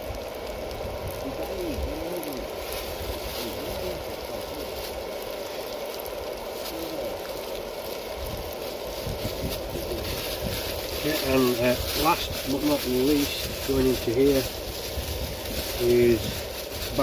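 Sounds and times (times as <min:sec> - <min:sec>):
curry bubbling and sizzling in a pan: 0:00.0 - 0:17.0.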